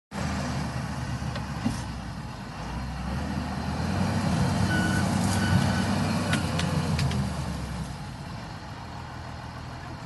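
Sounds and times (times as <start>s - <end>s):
tractor engine rumbling: 0.2s - 10.0s.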